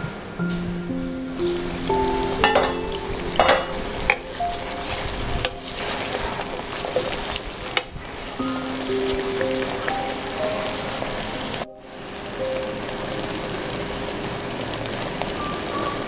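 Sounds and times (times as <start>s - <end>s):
soft background music: 0.4s - 7.4s, 8.4s - 14.6s
curry sizzling in a pan: 1.3s - 16.0s.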